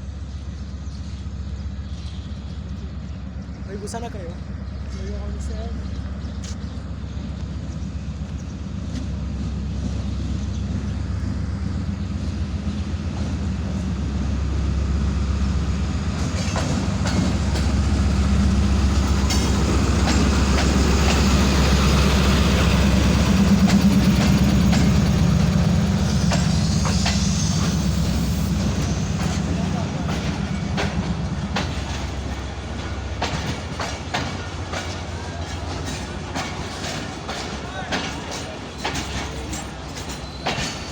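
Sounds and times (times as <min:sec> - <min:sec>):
diesel locomotive engine drone: 0:00.0 - 0:40.9
rail clatter: 0:02.5 - 0:40.9.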